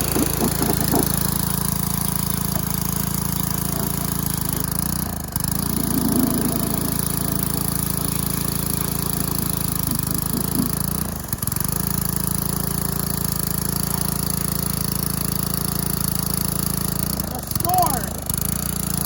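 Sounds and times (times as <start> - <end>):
pressure washer engine running: 0.0 - 19.0.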